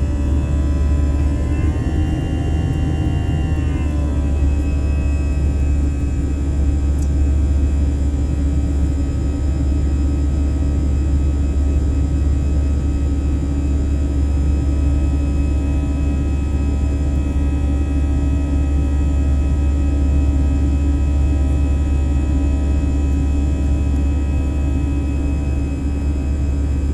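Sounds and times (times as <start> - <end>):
airliner engine rumble in cabin: 0.0 - 26.9.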